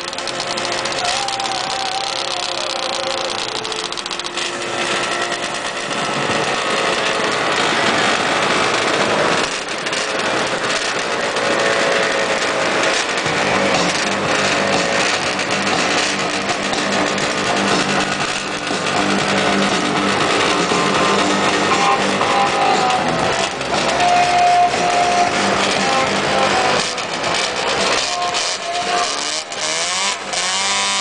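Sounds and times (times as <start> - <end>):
snowmobile driving past: 0.0 - 31.0
snowmobile engines running: 0.0 - 31.0
snowmobile idling: 0.0 - 31.0.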